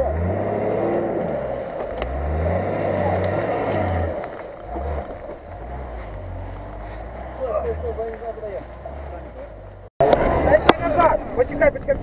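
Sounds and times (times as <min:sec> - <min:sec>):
engine revving under load: 0:00.0 - 0:11.4.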